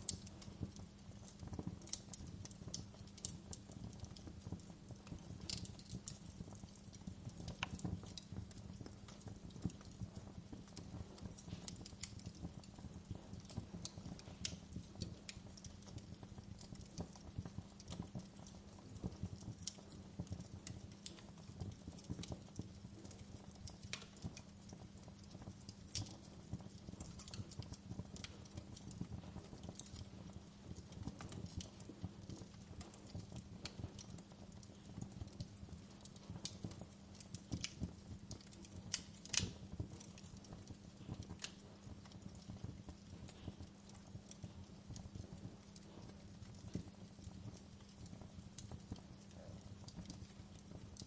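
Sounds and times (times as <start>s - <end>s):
fire crackling: 0.0s - 51.0s.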